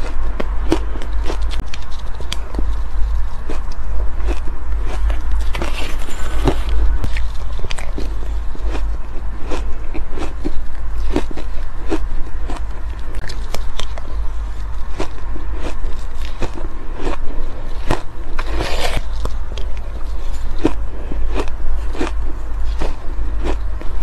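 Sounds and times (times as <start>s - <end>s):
person chewing crushed ice: 0.0s - 24.0s.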